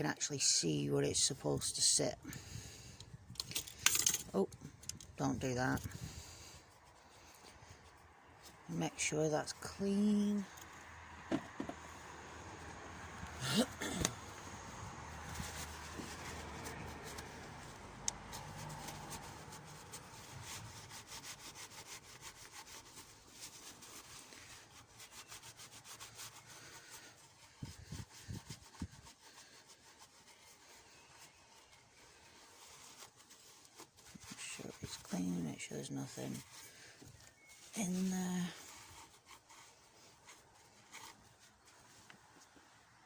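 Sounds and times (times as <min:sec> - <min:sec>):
rubbing and scraping strokes: 0:00.0 - 0:43.0.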